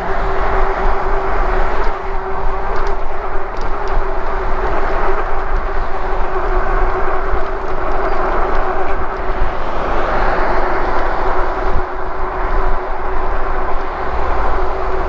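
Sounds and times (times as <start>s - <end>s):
bike tyre noise on concrete: 0.0s - 15.0s
wind rushing over microphone: 0.0s - 15.0s.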